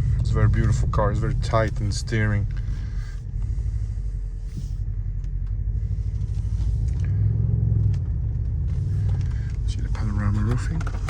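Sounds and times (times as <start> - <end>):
car engine at low revs: 0.0 - 11.0.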